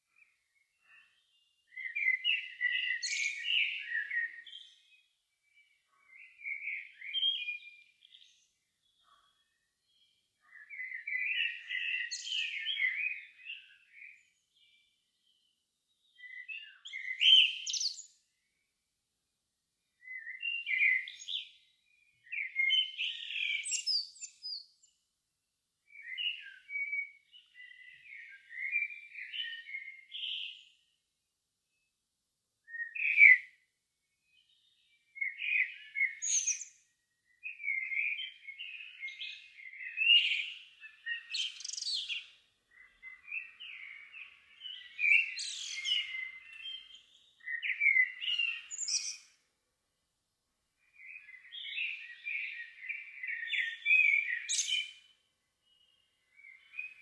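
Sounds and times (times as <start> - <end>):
songbirds warbling and chirping: 0.0 - 18.7, 19.8 - 25.1, 25.8 - 31.0, 32.7 - 57.0.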